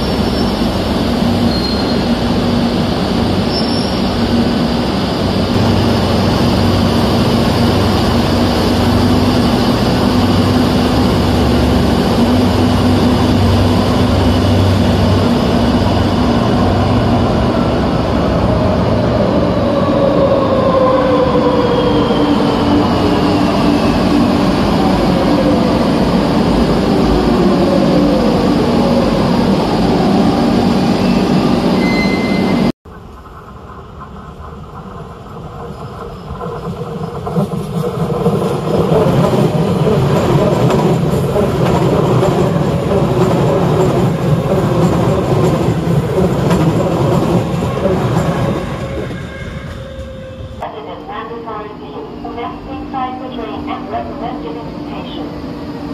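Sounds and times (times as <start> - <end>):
train wheels rumbling on rail: 0.0 - 50.7.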